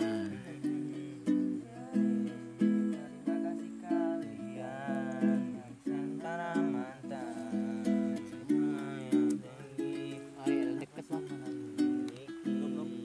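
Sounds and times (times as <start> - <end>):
guitar strumming chords: 0.0 - 13.0
person singing: 0.0 - 13.0.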